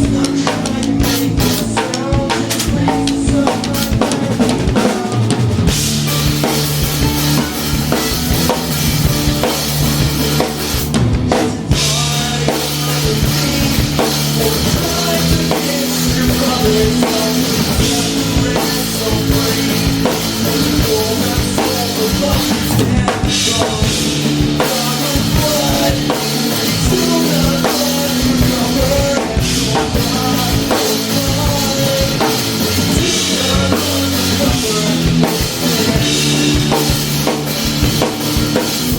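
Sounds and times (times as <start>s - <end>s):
live rock band playing: 0.0s - 38.9s
sustained bass notes: 0.0s - 38.9s.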